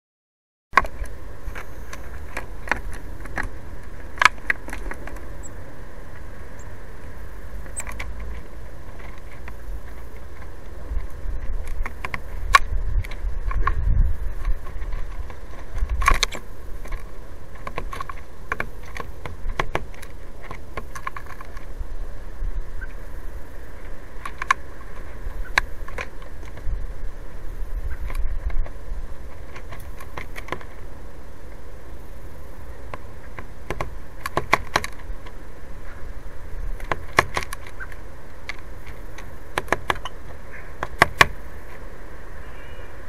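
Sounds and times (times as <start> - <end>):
steady low rumble: 0.8 - 43.0.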